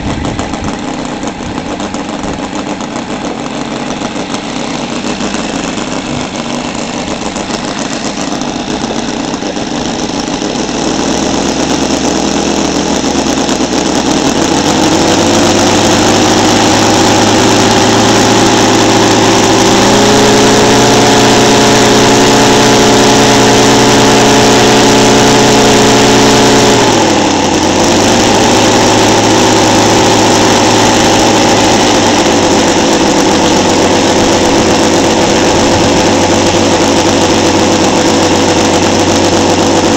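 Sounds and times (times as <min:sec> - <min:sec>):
model aircraft engine running: 0:00.0 - 0:39.9.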